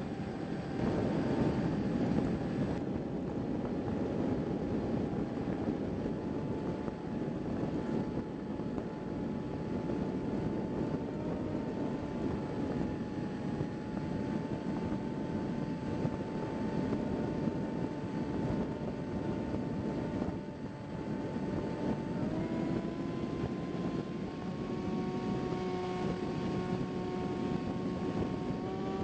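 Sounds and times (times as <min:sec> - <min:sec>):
airflow rushing on microphone: 0:00.0 - 0:29.0
electric motor and propeller whine: 0:00.0 - 0:29.0.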